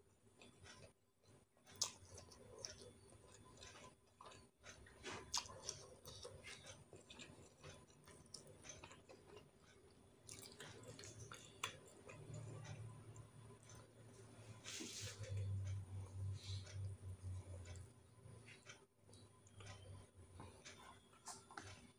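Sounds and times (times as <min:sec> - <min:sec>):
person chewing food: 0:00.0 - 0:21.9.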